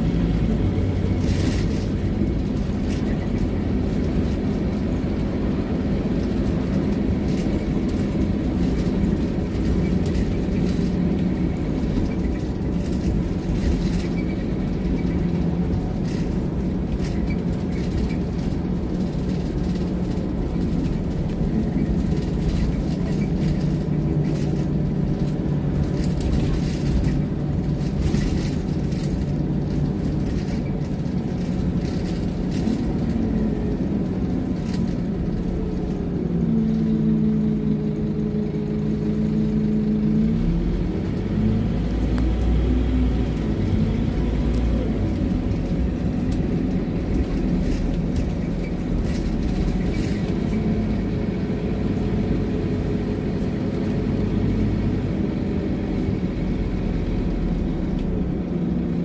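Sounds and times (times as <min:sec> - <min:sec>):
bus engine rumble: 0:00.0 - 0:59.0
interior rattles and clicks: 0:00.0 - 0:59.0.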